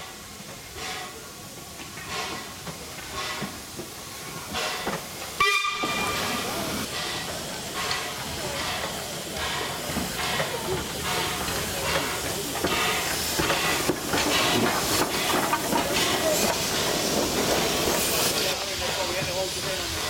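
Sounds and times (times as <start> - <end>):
steam engine exhaust beats: 0.0 - 20.0
steam hiss: 0.0 - 20.0.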